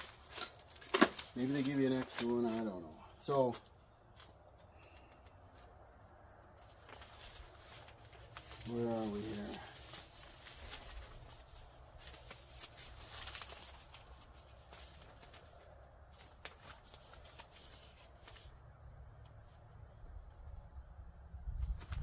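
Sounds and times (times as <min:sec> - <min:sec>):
paper pages rustling: 0:00.0 - 0:05.6, 0:06.6 - 0:18.6.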